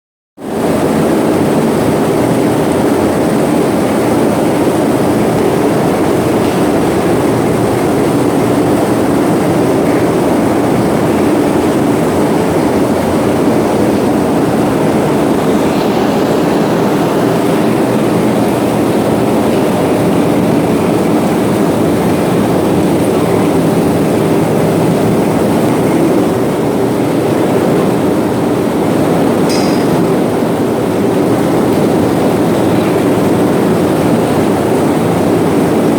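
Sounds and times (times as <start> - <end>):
machinery humming: 0.4 - 35.9.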